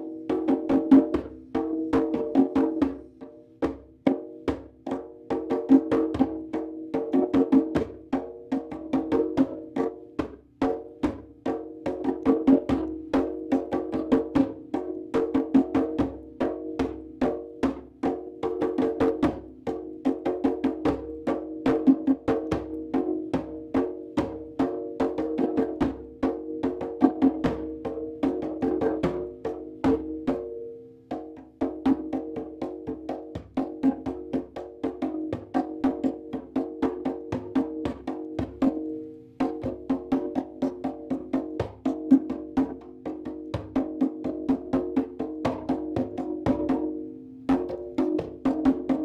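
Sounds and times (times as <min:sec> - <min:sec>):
hand drum fast rhythm: 0:00.0 - 0:49.0.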